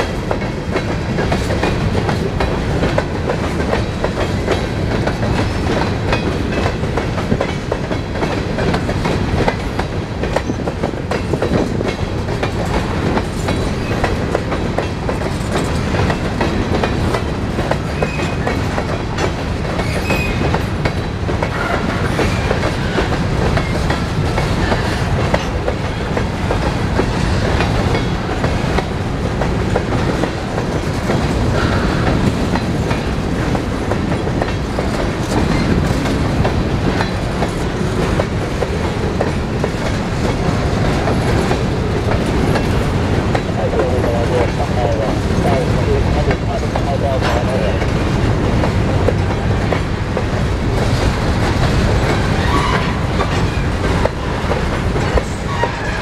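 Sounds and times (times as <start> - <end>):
wheels clicking over rail joints: 0.0 - 44.6, 45.2 - 56.0
freight train rumble and rattle: 0.0 - 56.0.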